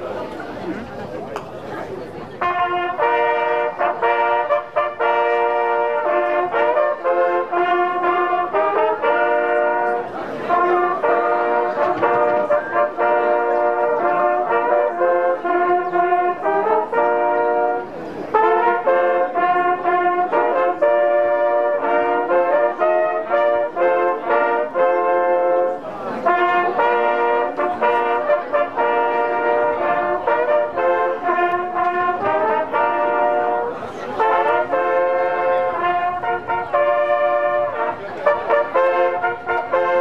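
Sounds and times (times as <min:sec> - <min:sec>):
brass hunting horns playing: 0:02.4 - 0:40.0.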